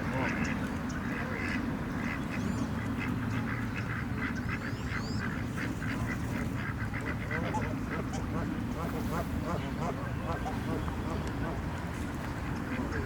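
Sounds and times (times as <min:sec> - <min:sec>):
ducks and geese calling: 0:00.0 - 0:13.0.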